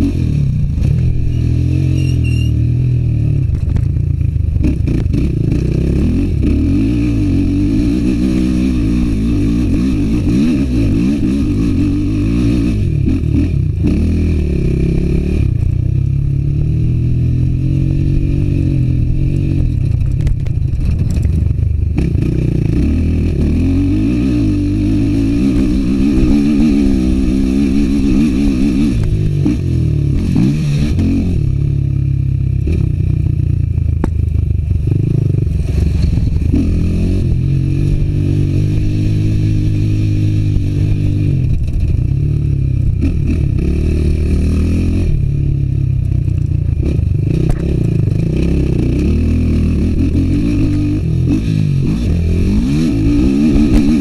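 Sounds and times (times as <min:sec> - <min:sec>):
quad bike engine revving: 0:00.0 - 0:33.8, 0:34.8 - 0:54.0.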